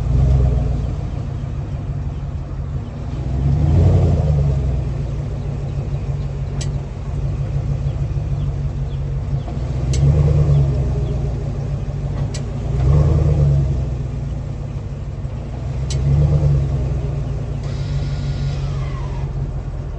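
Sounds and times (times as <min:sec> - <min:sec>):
pickup truck driving rumble: 0:00.0 - 0:19.9.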